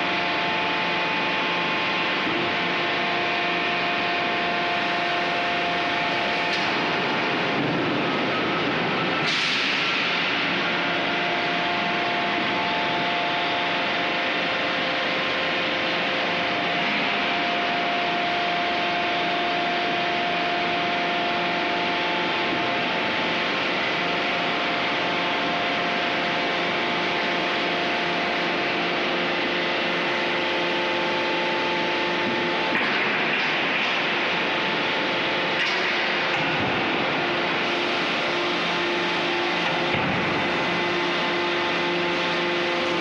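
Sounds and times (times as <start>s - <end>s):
steady humming tones: 0.0s - 43.0s.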